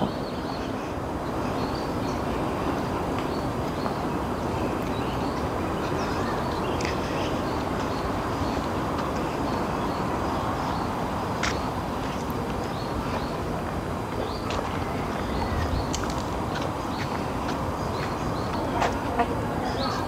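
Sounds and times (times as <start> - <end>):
outdoor rumble and hiss: 0.0 - 20.0.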